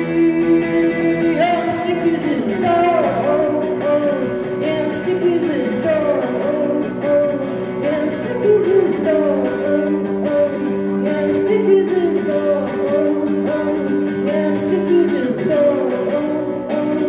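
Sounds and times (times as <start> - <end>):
electric guitar chords: 0.0 - 17.0
woman singing into a microphone: 0.0 - 17.0.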